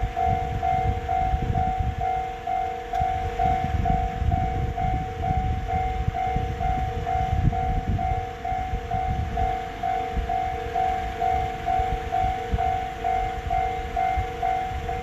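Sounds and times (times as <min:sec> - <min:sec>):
electronic two-tone alarm: 0:00.0 - 0:15.0.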